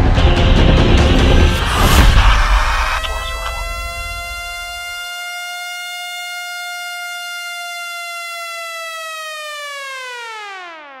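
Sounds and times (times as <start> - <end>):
siren wailing: 1.0 - 11.0.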